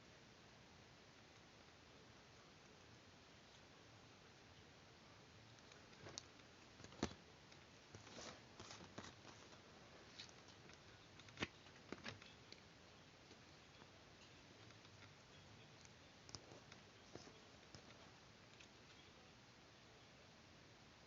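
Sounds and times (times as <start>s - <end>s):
quiet hiss: 0.0s - 21.0s.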